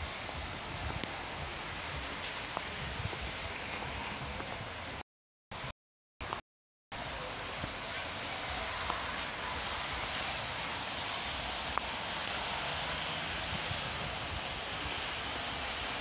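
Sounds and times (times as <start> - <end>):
rain hissing on a wet street: 0.0 - 5.0, 5.6 - 16.0.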